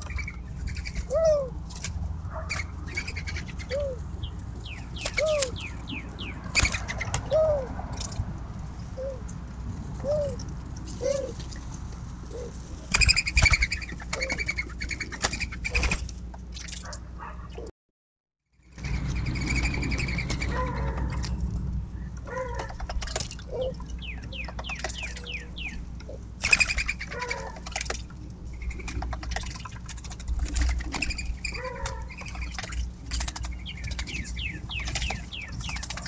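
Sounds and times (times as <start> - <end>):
birds chirping and trilling: 0.0 - 1.6, 2.3 - 8.1, 12.3 - 16.1, 16.9 - 17.7, 18.6 - 36.0.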